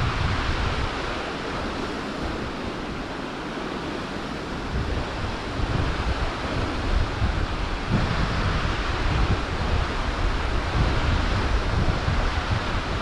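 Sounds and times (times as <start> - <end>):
wind buffeting microphone: 0.0 - 13.0
wind rushing over river: 0.0 - 13.0.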